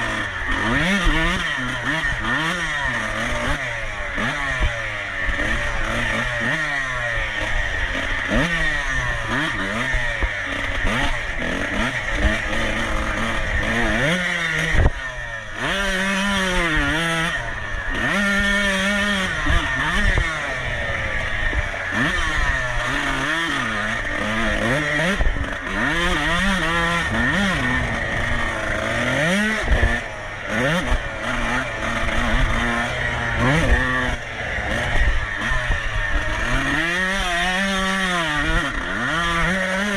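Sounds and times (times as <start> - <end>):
dirt bike engine racing: 0.0 - 39.9.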